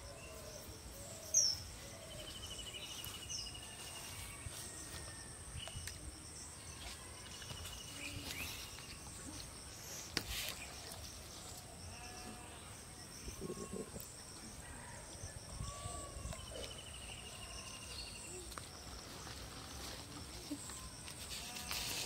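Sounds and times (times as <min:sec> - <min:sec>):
high-pitched insect whine: 0:00.0 - 0:22.0.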